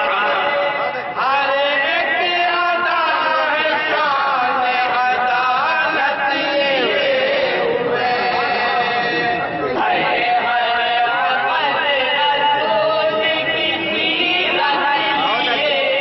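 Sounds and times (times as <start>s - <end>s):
men singing in unison: 0.0s - 16.0s.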